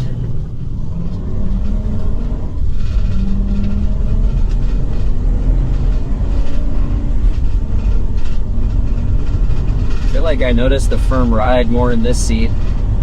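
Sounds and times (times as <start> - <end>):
vehicle driving rumble: 0.0 - 13.0
faint ticks and rattles: 0.2 - 13.0.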